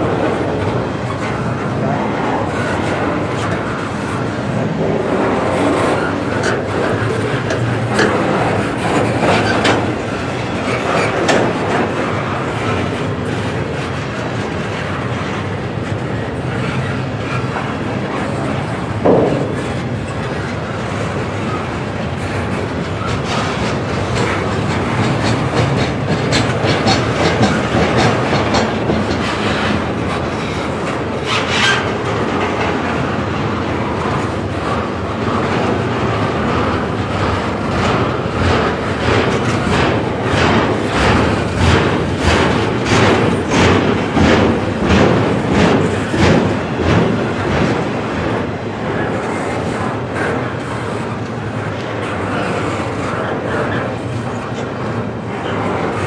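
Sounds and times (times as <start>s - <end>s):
wheels clicking over rail joints: 0.0s - 56.0s.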